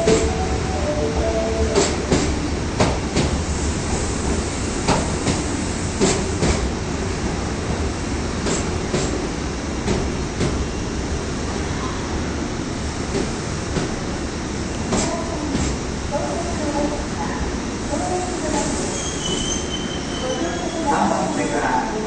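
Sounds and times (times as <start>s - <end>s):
train low rumble: 0.0s - 22.0s.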